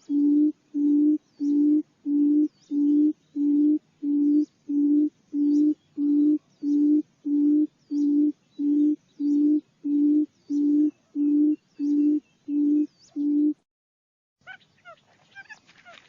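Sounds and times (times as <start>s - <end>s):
bird booming hoots: 0.0s - 13.6s.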